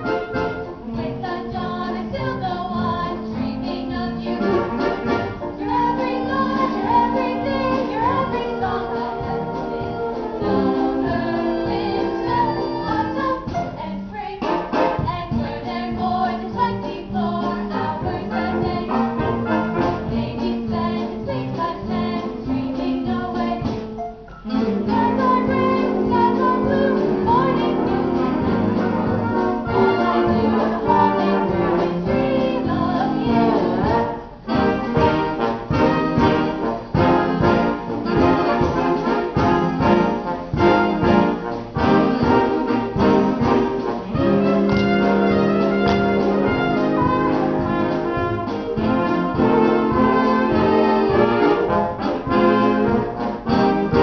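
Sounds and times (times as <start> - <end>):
upbeat brass band music: 0.0 - 54.0.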